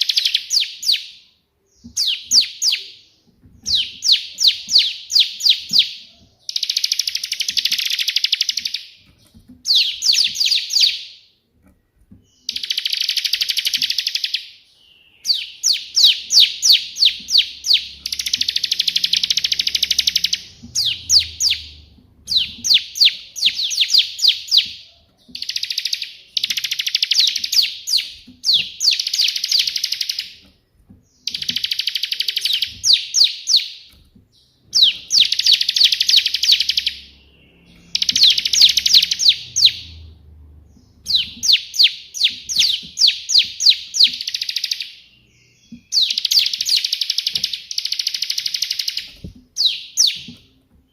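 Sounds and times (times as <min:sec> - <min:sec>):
bird singing sharp notes and trills: 0:00.0 - 0:50.9.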